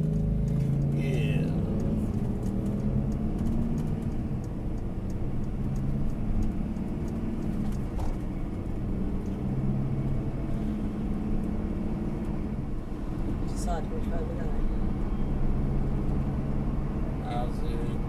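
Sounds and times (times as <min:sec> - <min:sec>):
road rumble: 0:00.0 - 0:18.0
vehicle engine running: 0:00.0 - 0:18.0.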